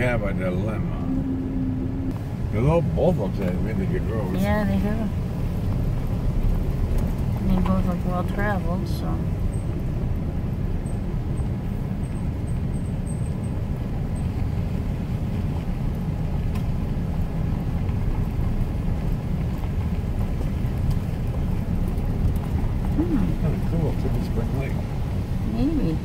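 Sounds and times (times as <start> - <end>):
truck engine and tyres rumbling: 0.0 - 26.0.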